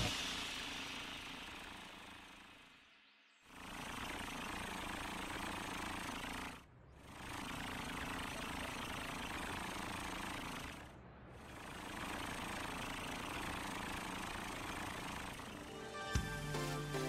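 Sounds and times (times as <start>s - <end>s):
cartoon truck engine running: 0.0s - 2.8s, 3.4s - 17.0s.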